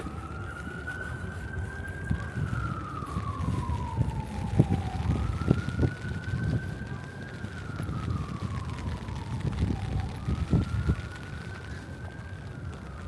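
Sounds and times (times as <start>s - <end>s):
emergency vehicle siren wailing: 0.0s - 13.0s
street rumble: 0.0s - 13.0s.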